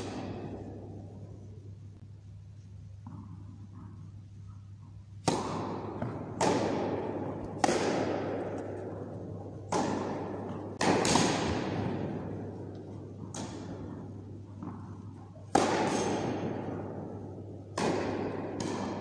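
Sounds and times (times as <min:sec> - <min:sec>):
tennis ball struck by rackets: 0:00.0 - 0:01.1, 0:03.0 - 0:03.9, 0:05.2 - 0:19.0.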